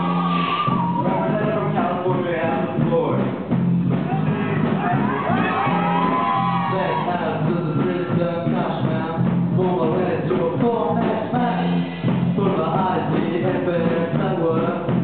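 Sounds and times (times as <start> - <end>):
bass guitar: 0.0 - 15.0
drum kit: 0.0 - 15.0
male singer: 0.7 - 3.2, 4.0 - 15.0.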